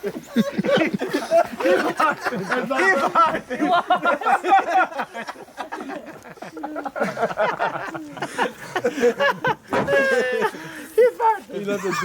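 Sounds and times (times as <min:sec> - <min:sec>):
men talking over each other: 0:00.0 - 0:12.0.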